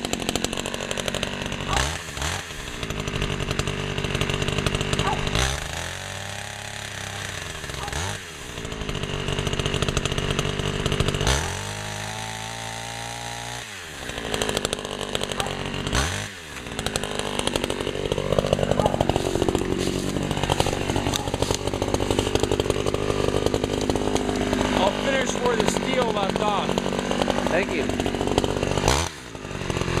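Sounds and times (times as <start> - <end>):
chainsaw revving and idling: 0.0 - 30.0.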